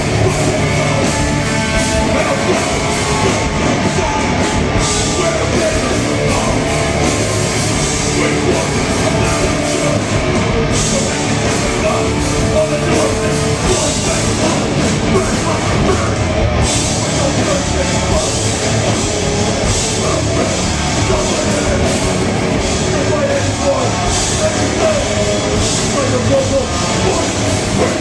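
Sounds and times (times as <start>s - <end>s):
distorted electric guitar: 0.0s - 28.0s
drum kit: 0.0s - 28.0s.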